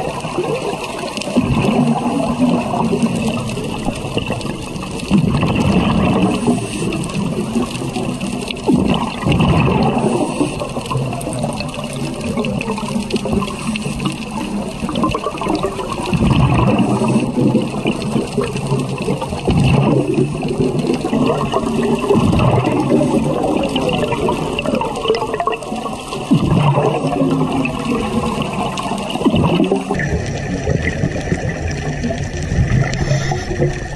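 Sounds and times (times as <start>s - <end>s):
underwater hiss: 0.0s - 30.0s, 32.3s - 33.9s
bubbles gurgling underwater: 0.0s - 33.9s.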